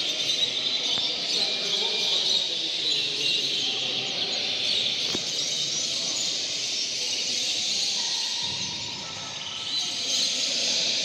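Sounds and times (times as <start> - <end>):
canaries singing and chirping: 0.0 - 11.0.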